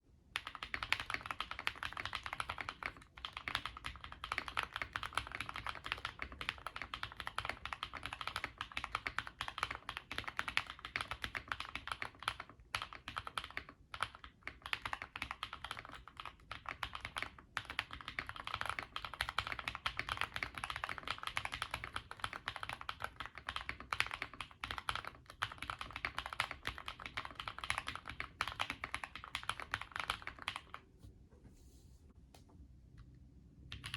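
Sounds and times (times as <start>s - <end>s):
mechanical keyboard typing: 0.4s - 30.8s.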